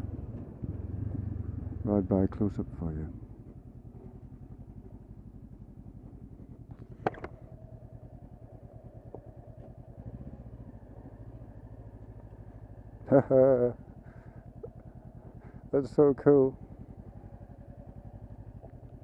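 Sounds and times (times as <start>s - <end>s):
motorcycle engine putting along: 3.2s - 19.0s.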